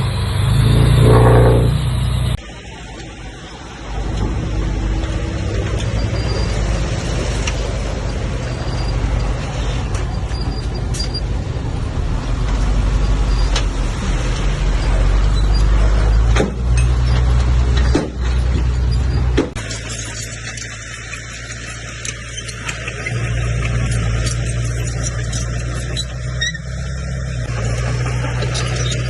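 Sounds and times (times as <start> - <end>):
bulldozer engine rumbling: 0.0 - 29.0.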